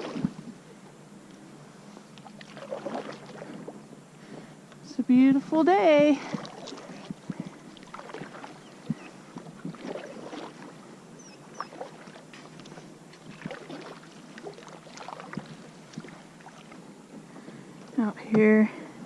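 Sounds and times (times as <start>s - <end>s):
water lapping against kayak hull: 0.0s - 0.8s, 2.0s - 4.6s, 6.0s - 17.9s.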